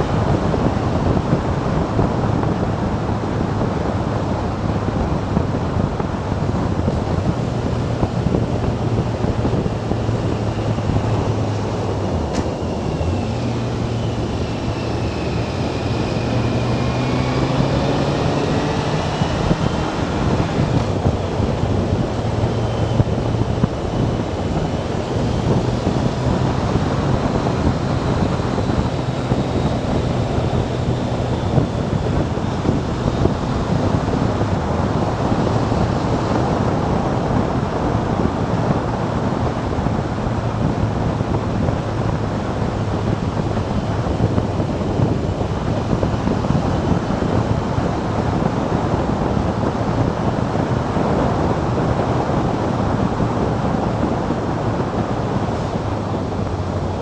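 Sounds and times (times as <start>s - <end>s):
motorcycle engine droning: 0.0s - 57.0s
wind rushing over microphone: 0.0s - 57.0s.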